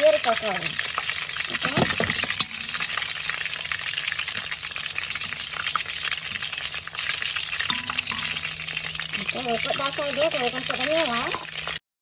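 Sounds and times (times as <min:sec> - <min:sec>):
food deep-frying in hot oil: 0:00.0 - 0:11.8.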